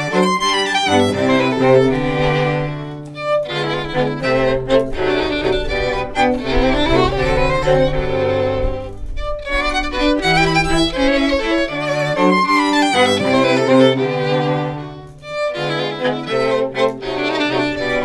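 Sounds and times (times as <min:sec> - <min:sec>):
bowed violins melody: 0:00.0 - 0:18.0
low cello line: 0:00.0 - 0:18.0.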